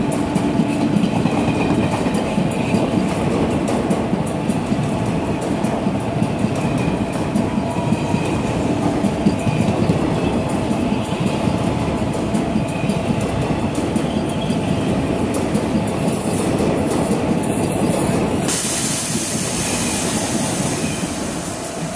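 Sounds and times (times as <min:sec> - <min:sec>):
train rumble: 0:00.0 - 0:21.9
train wheels clattering over rail joints: 0:00.0 - 0:21.9.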